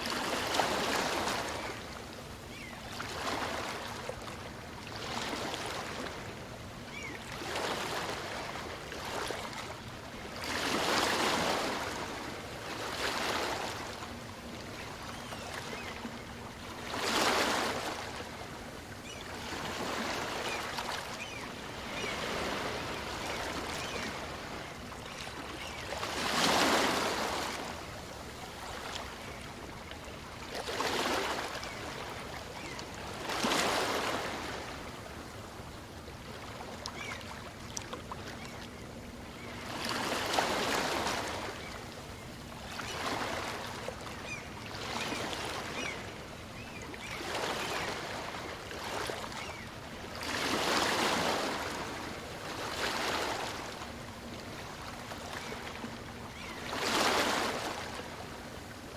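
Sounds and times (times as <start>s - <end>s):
small waves breaking on shore: 0.0s - 58.9s.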